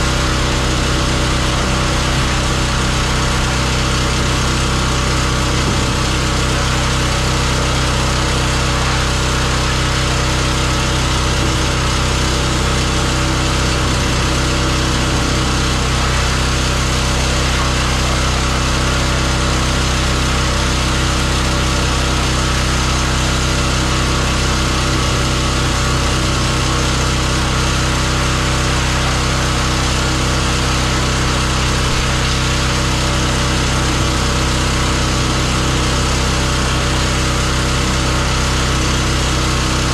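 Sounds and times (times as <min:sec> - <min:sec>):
water jet hissing: 0:00.0 - 0:37.2
pressure washer motor drone: 0:00.0 - 0:39.9.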